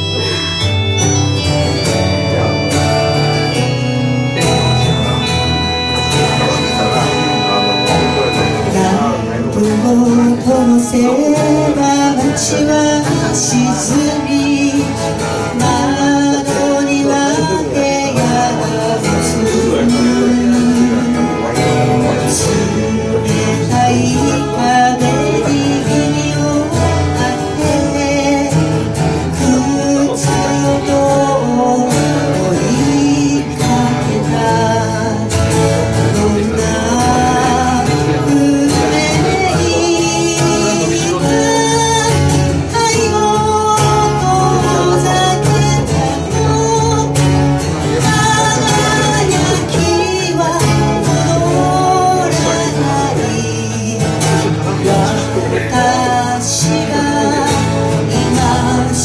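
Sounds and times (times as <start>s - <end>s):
strummed acoustic guitar: 0.0s - 59.0s
woman singing into microphone: 5.2s - 59.0s.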